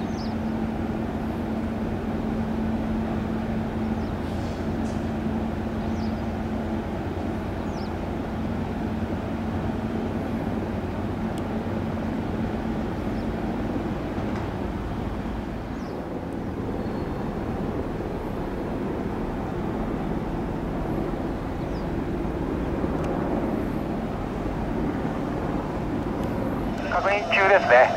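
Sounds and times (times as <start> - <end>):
outdoor background rumble: 0.0 - 27.9.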